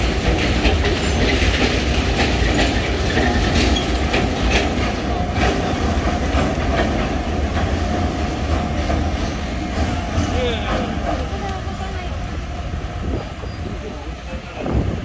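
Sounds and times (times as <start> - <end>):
train rumbling past: 0.0 - 15.0
wheels clacking over rail joints: 0.0 - 15.0.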